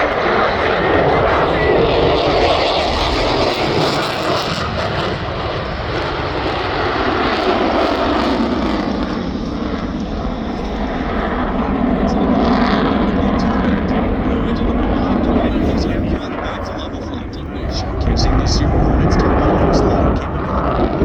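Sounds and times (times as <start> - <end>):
jet roar: 0.0 - 21.0.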